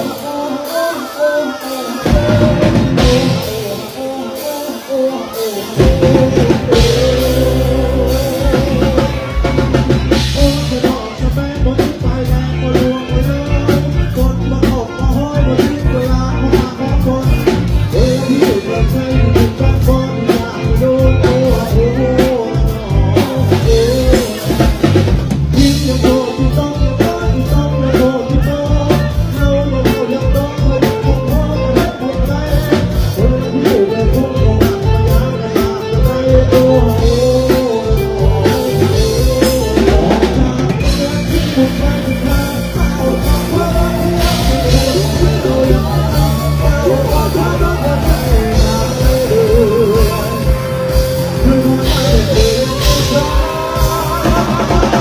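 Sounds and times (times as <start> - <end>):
drum kit beat: 0.0 - 55.0
live band music: 0.0 - 55.0
person singing: 0.0 - 55.0.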